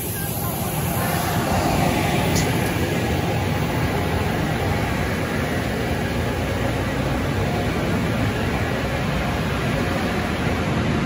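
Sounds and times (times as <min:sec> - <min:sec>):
car wash equipment hissing: 0:00.0 - 0:11.0.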